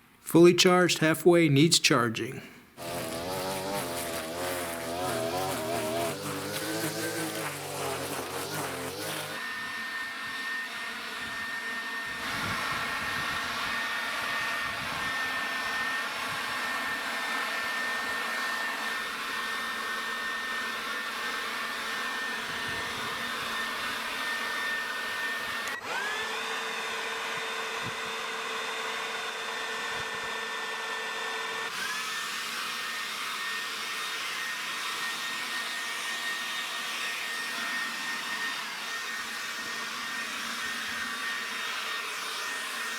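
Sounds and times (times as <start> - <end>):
leaf blower running: 2.8 - 42.9.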